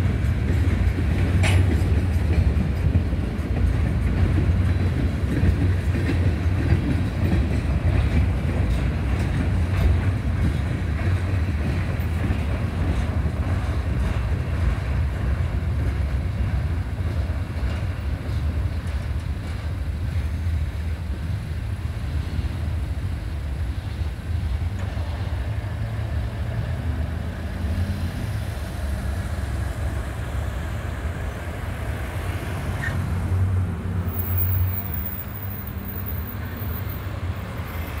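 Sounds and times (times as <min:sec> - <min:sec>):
cars idling and driving: 0:00.0 - 0:38.0
freight train passing: 0:00.0 - 0:38.0.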